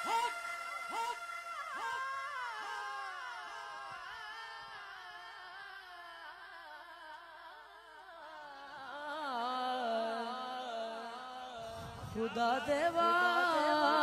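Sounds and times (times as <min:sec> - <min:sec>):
man singing a long note: 0:00.0 - 0:14.0.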